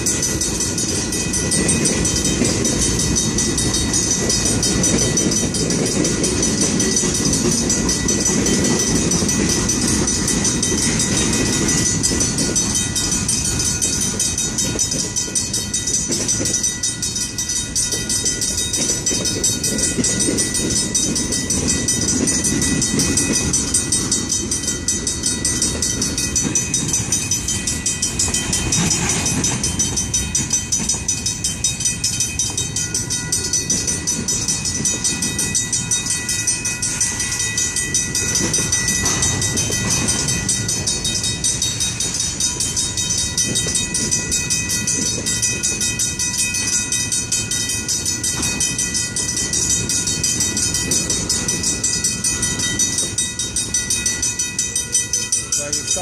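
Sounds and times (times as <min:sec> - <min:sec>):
crossing bells ringing: 0:00.0 - 0:56.0
freight wheels rumbling on rail: 0:00.0 - 0:56.0.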